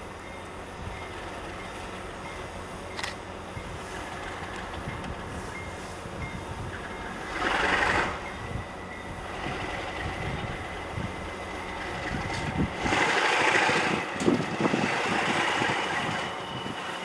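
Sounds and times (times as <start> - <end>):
diesel train rumbling: 0.0 - 17.0
train hissing: 0.0 - 17.0.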